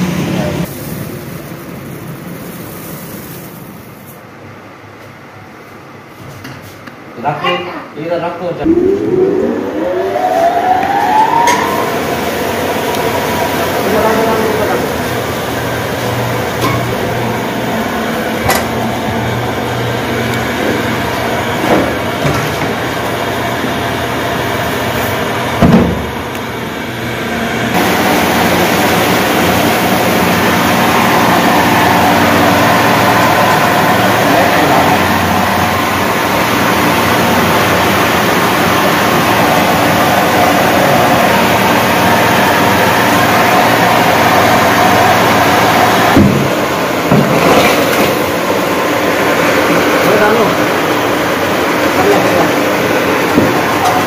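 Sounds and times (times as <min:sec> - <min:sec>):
rice mill machine droning: 0:00.0 - 0:04.8, 0:08.6 - 0:54.0.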